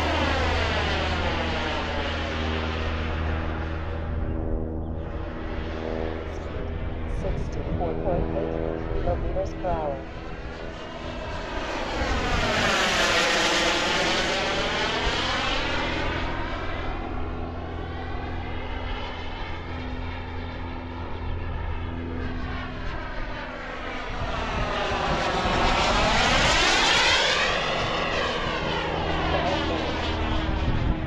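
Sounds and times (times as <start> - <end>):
model jet turbine passing by: 0.0 - 31.0.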